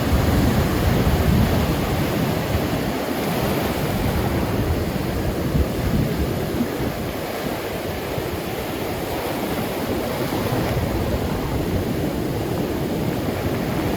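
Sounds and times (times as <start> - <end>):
rough sea surf breaking: 0.0 - 13.9
wind buffeting microphone: 0.0 - 13.9.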